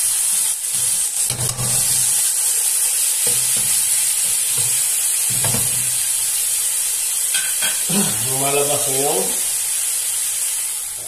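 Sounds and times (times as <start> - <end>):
fish sizzling in a pot: 0.0 - 11.0.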